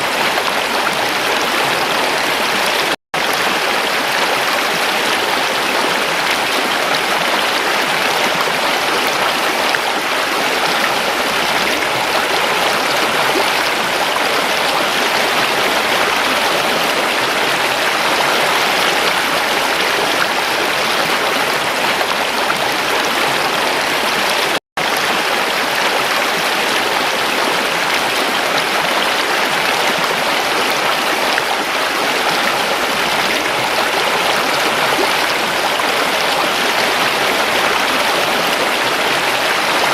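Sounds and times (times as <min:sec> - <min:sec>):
stream water rushing and babbling: 0:00.0 - 0:39.9.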